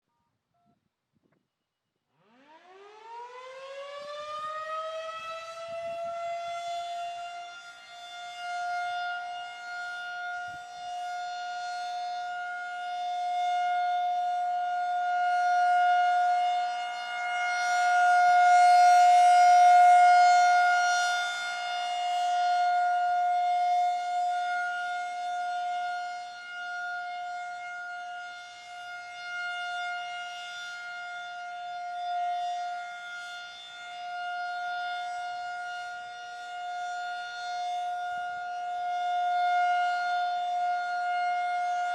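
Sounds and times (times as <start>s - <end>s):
warning siren steady tone: 2.1s - 41.9s.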